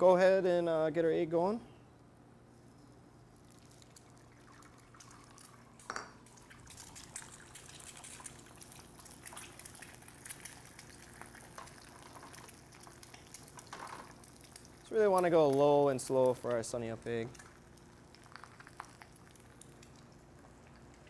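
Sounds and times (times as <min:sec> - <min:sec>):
egg sizzling in oil: 0:03.4 - 0:21.0.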